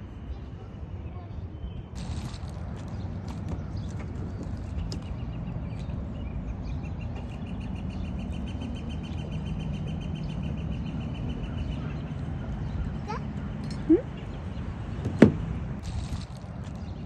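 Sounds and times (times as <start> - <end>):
bird chirping: 1.1 - 17.0.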